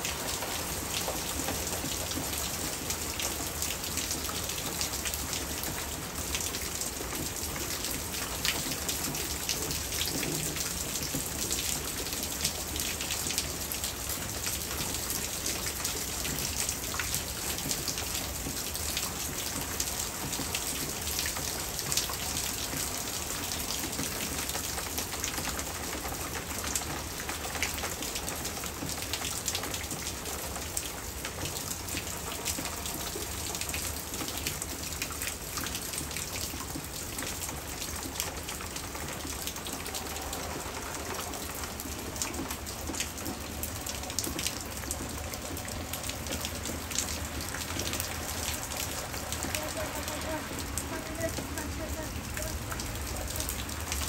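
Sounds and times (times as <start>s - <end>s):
heavy rain falling: 0.0s - 54.0s
raindrops ticking: 0.1s - 54.0s.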